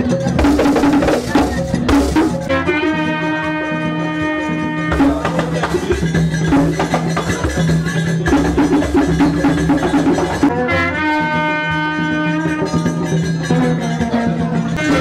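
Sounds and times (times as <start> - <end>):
drums and percussion beat: 0.0 - 15.0.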